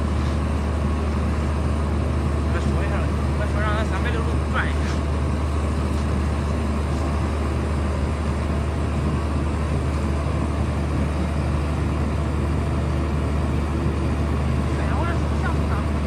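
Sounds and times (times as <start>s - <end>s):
crane mechanical drone: 0.0s - 16.0s.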